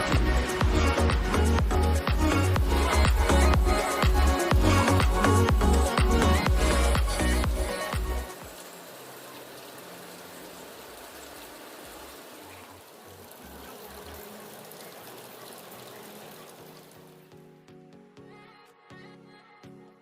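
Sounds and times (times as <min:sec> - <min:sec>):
flowing water rushing: 0:00.0 - 0:17.6
faint low music: 0:00.0 - 0:20.0.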